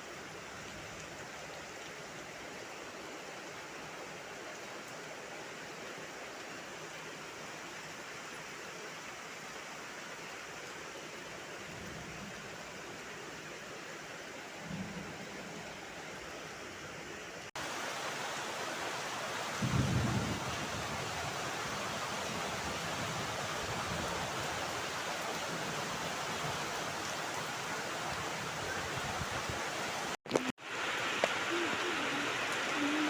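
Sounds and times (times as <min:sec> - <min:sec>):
rain hiss: 0:00.0 - 0:33.0.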